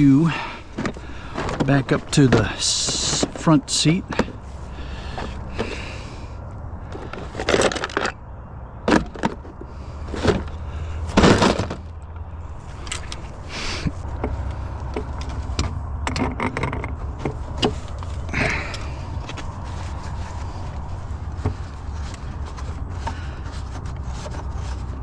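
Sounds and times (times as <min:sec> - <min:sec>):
scrap items clattering: 0:00.0 - 0:06.2, 0:06.8 - 0:08.2, 0:08.9 - 0:12.0, 0:12.6 - 0:25.0
low steady rumble: 0:00.0 - 0:25.0.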